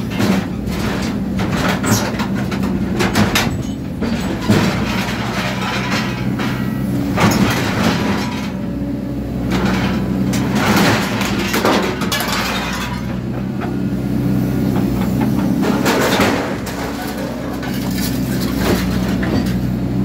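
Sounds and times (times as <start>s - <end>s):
metal crunching and clanking: 0.0s - 8.7s, 9.3s - 13.9s, 14.6s - 19.8s
diesel engine running: 0.0s - 20.0s.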